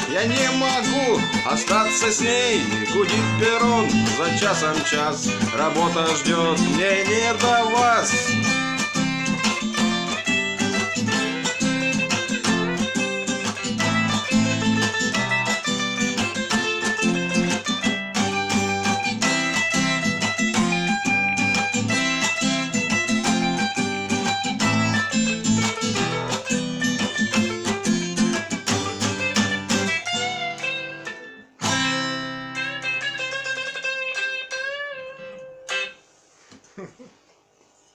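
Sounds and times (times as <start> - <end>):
guitar playing: 0.0 - 37.0.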